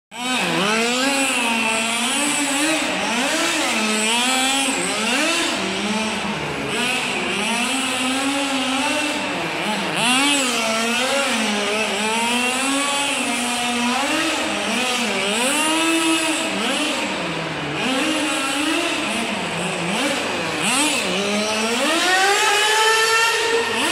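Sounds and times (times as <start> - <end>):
small model car engine revving: 0.2 - 23.9.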